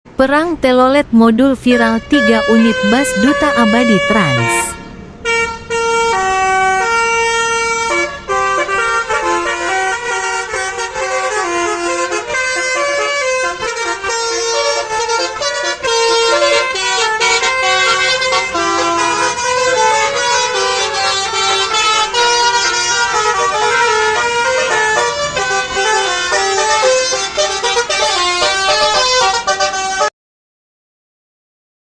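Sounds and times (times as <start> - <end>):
musical bus air horns: 1.6 - 30.1.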